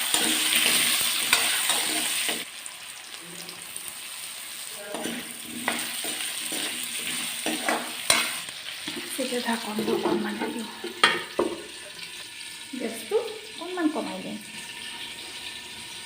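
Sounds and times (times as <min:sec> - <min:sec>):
potatoes sizzling in oil: 0:00.0 - 0:16.0.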